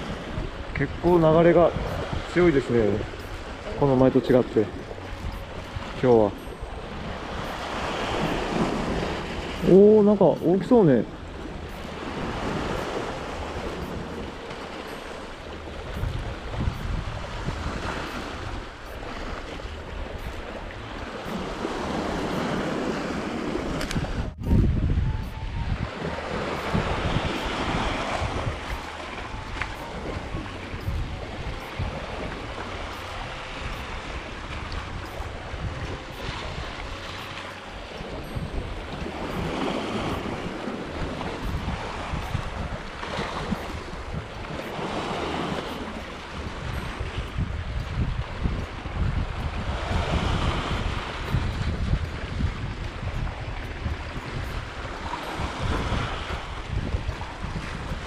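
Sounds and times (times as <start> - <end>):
waves washing against rocks: 0.0 - 25.0, 25.6 - 58.0
gusty wind on microphone: 0.0 - 58.0.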